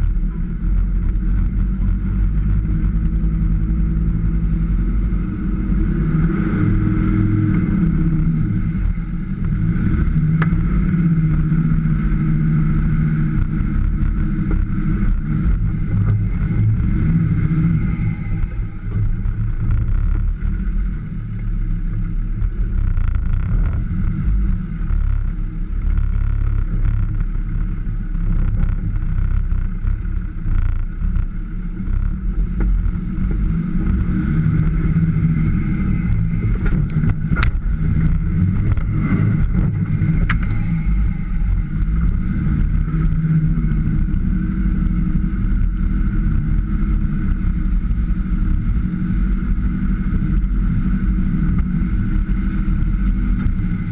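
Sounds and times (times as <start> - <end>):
car engine rumbling: 0.0 - 53.9.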